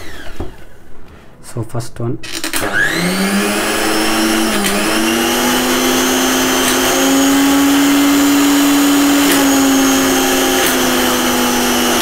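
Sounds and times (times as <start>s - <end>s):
mixer motor high whine: 0.0s - 0.8s, 2.2s - 12.0s.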